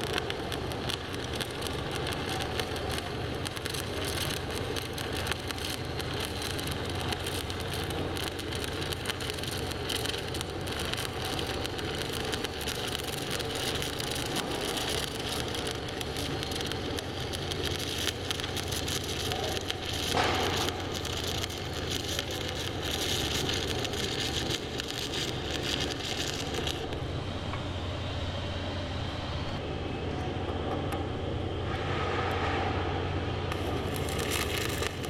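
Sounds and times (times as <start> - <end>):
welding arc crackling sizzle: 0.0 - 29.6, 31.6 - 35.0
low steady hum: 0.0 - 35.0.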